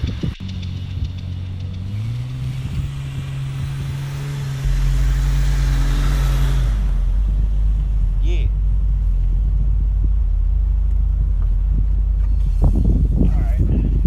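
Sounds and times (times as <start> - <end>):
car engine revving: 0.0 - 14.0
loud low rumble: 0.0 - 14.0.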